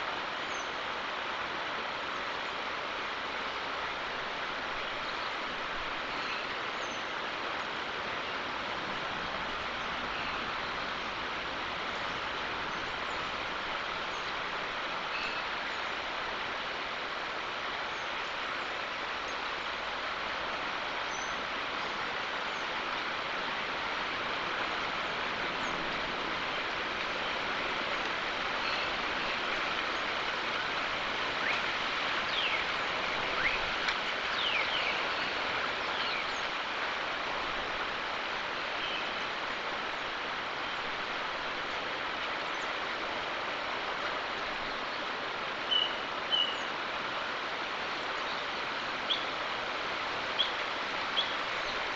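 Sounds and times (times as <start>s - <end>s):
outdoor ambient hiss: 0.0s - 51.9s.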